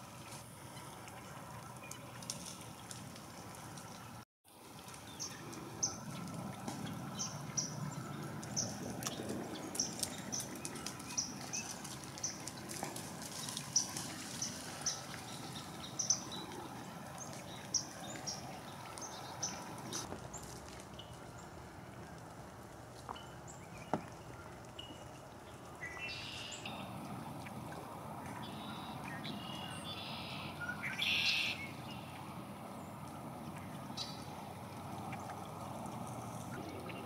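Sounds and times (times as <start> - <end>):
steady outdoor hiss: 0.0 - 37.0.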